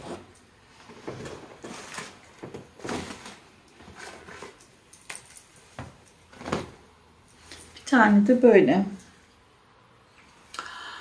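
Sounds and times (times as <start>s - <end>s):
fabric and shopping bag rustling: 0.0s - 9.0s.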